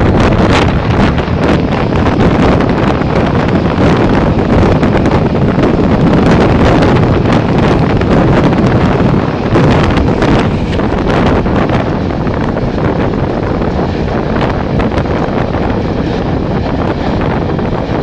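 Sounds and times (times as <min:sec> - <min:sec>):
train running on track: 0:00.0 - 0:18.0
wind buffeting microphone: 0:00.0 - 0:18.0.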